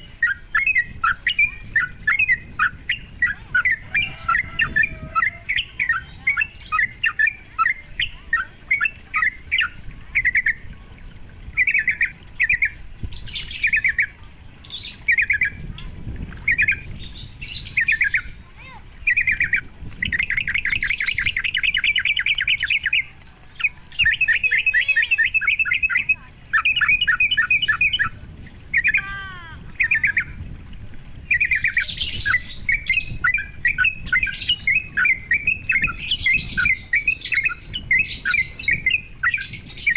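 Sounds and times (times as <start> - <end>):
bird rattling trills: 0.0 - 39.9
bulbul bubbly chattering call: 0.0 - 39.9.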